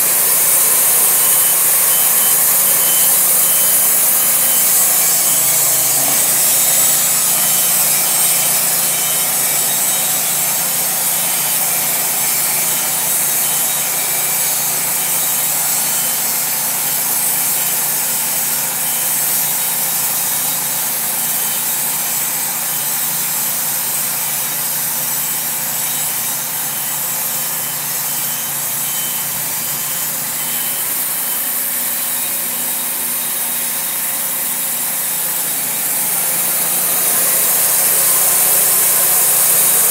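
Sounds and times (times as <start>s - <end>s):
band saw blade cutting wood: 0.0s - 39.9s
sawmill engine: 0.0s - 39.9s.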